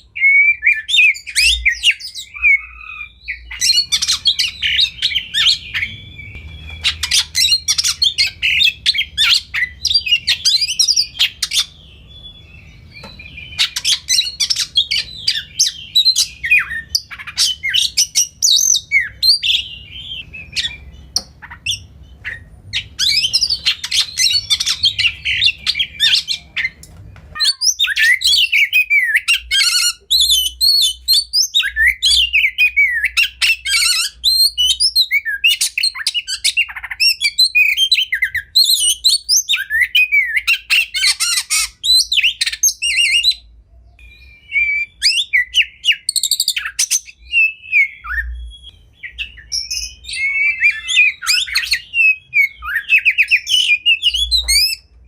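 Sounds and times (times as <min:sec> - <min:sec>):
bird singing whistles and trills: 0:00.0 - 0:55.0
faint low hum: 0:00.0 - 0:55.0.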